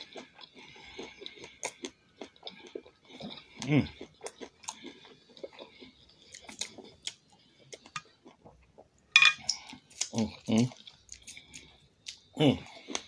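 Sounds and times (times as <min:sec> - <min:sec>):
close chewing with mouth noises: 0:00.0 - 0:13.0.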